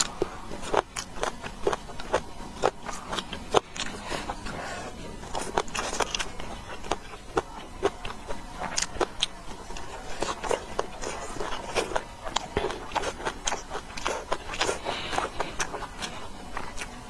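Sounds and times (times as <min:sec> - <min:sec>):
person chewing and smacking: 0:00.0 - 0:17.0.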